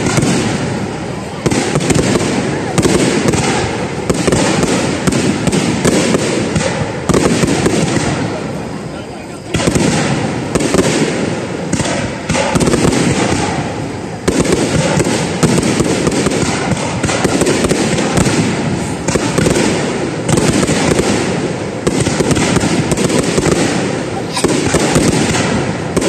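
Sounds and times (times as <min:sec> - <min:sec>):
fireworks booming: 0:00.0 - 0:26.0
fireworks crackling: 0:00.0 - 0:26.0.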